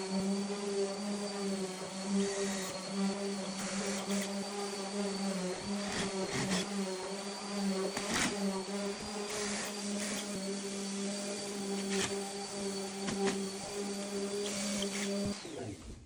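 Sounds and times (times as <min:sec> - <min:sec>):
electric motor hum: 0:00.0 - 0:16.0.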